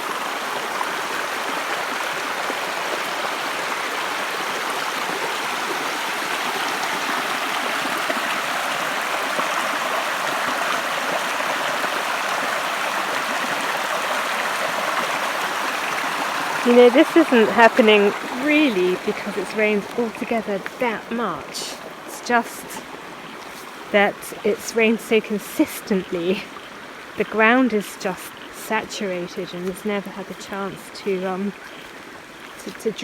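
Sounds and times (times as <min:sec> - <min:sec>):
small waterfall rushing: 0:00.0 - 0:33.0.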